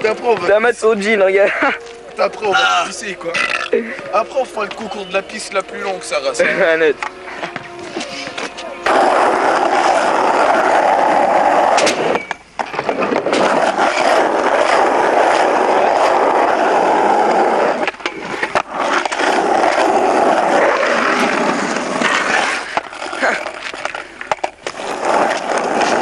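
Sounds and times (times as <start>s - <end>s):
skateboard wheels on asphalt: 0.0s - 26.0s.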